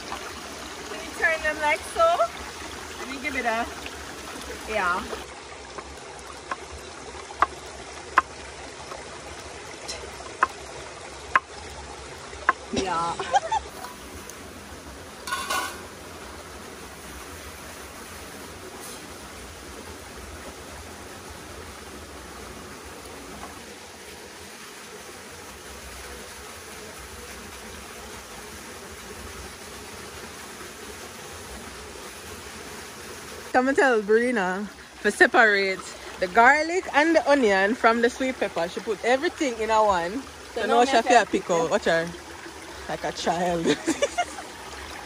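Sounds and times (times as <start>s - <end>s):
rocky stream rushing: 0.0s - 45.0s.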